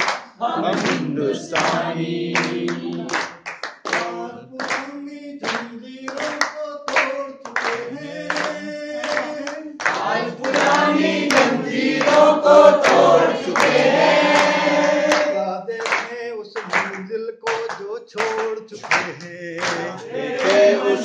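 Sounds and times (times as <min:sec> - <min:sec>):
group singing: 0:00.0 - 0:17.1, 0:18.2 - 0:21.0
hand clapping: 0:00.0 - 0:21.0.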